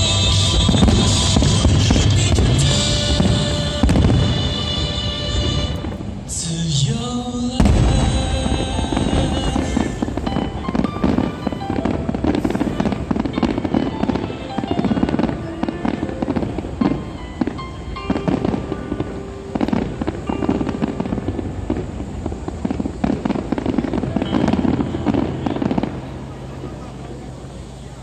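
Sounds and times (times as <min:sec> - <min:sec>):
fireworks bursting: 0:00.0 - 0:28.0
music playing: 0:00.0 - 0:28.0.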